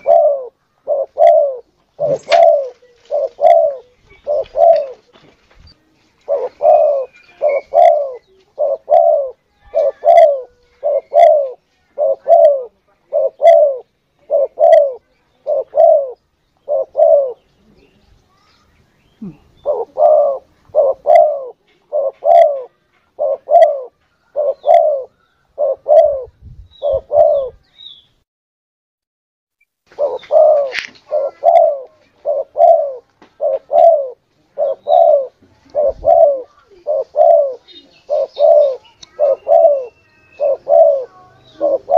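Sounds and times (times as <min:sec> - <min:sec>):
dove cooing: 0:00.0 - 0:05.2, 0:06.2 - 0:17.9, 0:19.2 - 0:27.6, 0:29.9 - 0:41.9.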